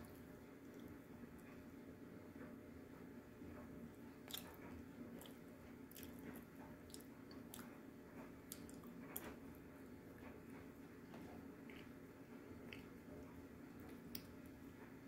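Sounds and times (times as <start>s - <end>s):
soft chewing: 0.0s - 2.5s, 3.4s - 15.0s.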